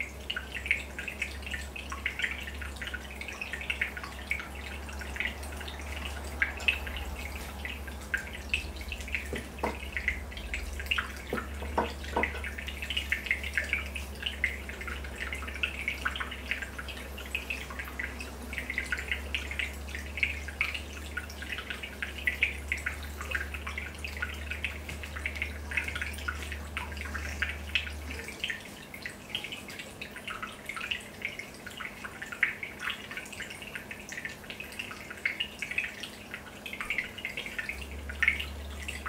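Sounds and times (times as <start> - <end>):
aquarium air bubbles popping: 0.0 - 39.0
low steady hum: 0.0 - 39.0.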